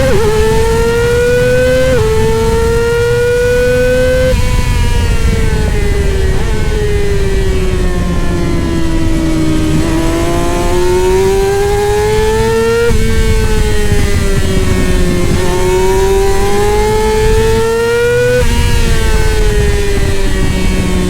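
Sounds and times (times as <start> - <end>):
motorcycle engine at full throttle: 0.0 - 21.0.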